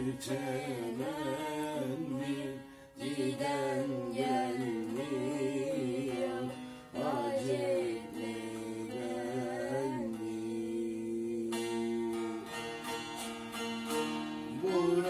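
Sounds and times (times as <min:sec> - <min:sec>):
person singing ornamented melody: 0:00.0 - 0:12.6, 0:14.4 - 0:15.0.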